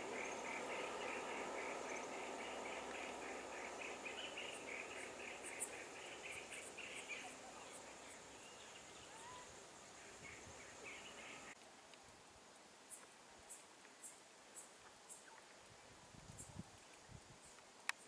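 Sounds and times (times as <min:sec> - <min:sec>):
faint insect chirping: 0:00.0 - 0:18.0
thin steady hiss: 0:00.0 - 0:18.0.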